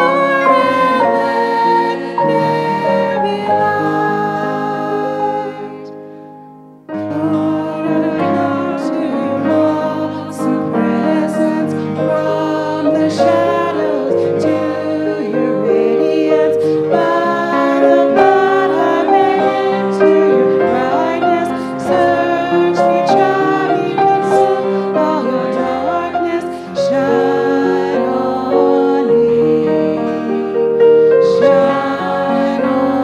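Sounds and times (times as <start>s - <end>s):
women singing hymn: 0.0s - 6.0s, 7.0s - 33.0s
choir singing: 0.0s - 6.1s, 6.9s - 33.0s
piano accompaniment: 0.0s - 33.0s.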